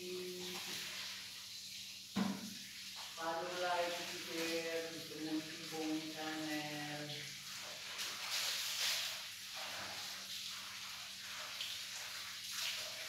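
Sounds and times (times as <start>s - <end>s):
water splashing from wrung laundry: 0.0s - 13.0s.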